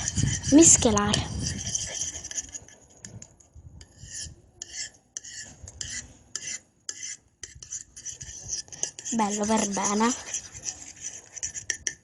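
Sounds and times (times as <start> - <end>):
spoon stirring thick slime: 0.0 - 12.0.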